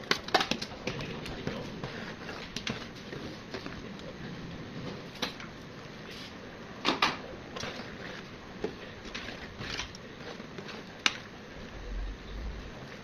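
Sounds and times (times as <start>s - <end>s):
ladle stirring porridge: 0.0s - 6.3s, 7.2s - 11.7s
steady low hiss: 0.0s - 13.0s.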